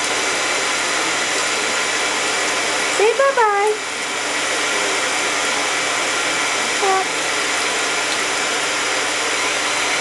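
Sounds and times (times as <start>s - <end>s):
blow dryer running: 0.0s - 10.0s.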